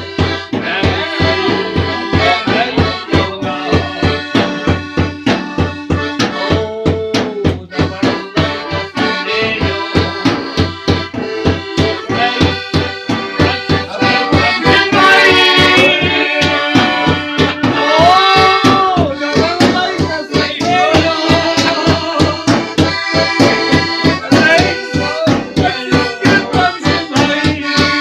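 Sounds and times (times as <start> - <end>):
accordion playing folk tune: 0.0 - 28.0.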